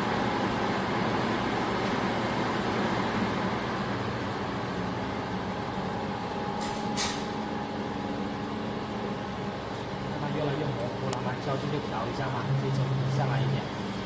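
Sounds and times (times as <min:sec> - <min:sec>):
fan noise: 0:00.0 - 0:14.0
laser welding machine humming: 0:00.0 - 0:14.0.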